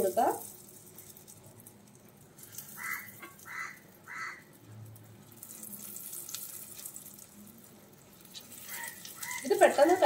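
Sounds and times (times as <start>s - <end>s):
hot oil sizzling: 0.0s - 10.0s.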